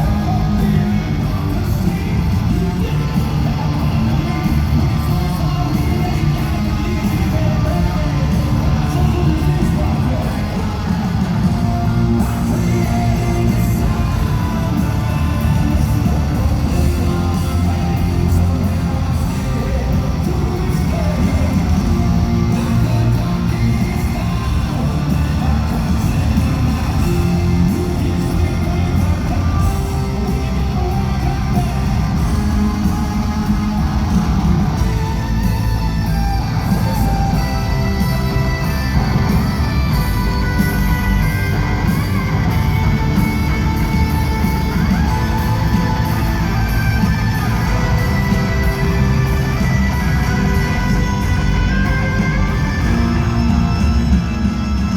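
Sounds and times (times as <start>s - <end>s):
bass guitar: 0.0s - 54.9s
distorted electric guitars: 0.0s - 54.9s
drums: 0.0s - 54.9s
person singing: 0.0s - 54.9s.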